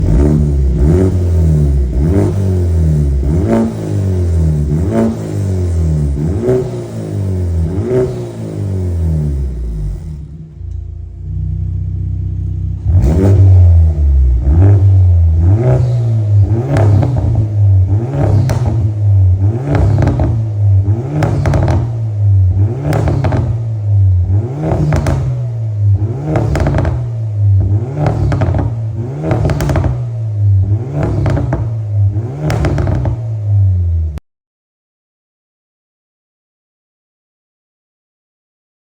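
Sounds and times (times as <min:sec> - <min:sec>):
car engine revving: 0:00.0 - 0:34.2.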